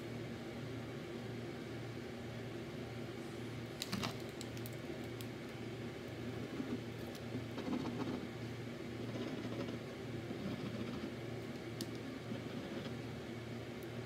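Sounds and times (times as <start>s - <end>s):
pulsing mechanical hum: 0.0s - 14.0s.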